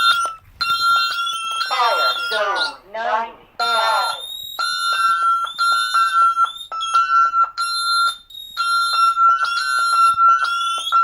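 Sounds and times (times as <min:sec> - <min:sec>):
shrill alarm tones: 0:00.0 - 0:11.0.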